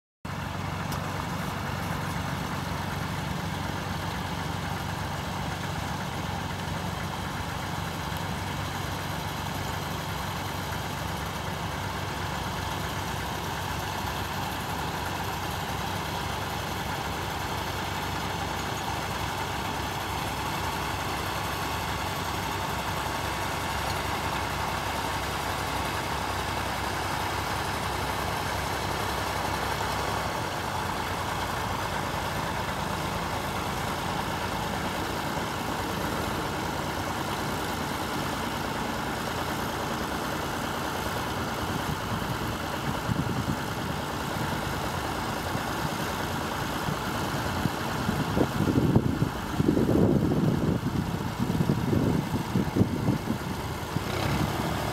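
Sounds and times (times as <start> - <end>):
tractor engines running: 0.2 - 54.9.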